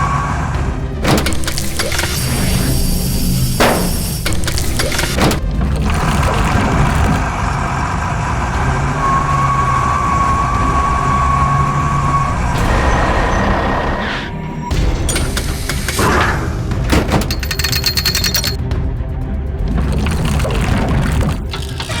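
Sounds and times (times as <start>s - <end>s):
heavy vehicle engine running: 0.0s - 18.6s.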